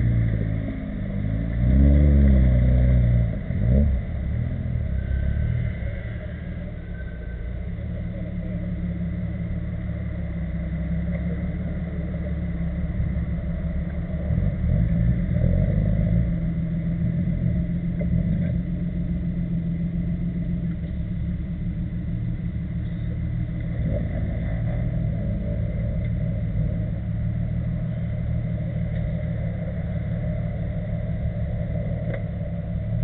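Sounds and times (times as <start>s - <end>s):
off-road vehicle engine rumbling: 0.0s - 33.0s.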